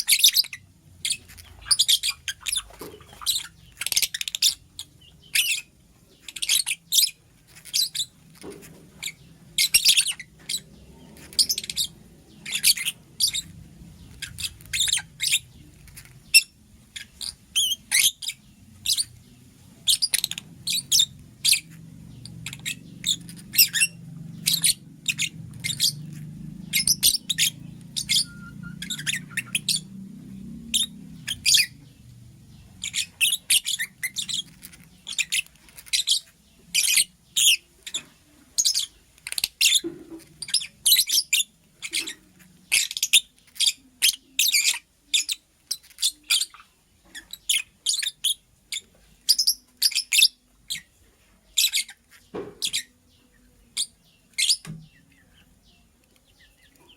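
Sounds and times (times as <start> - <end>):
lovebird chirping: 0.0 - 56.9.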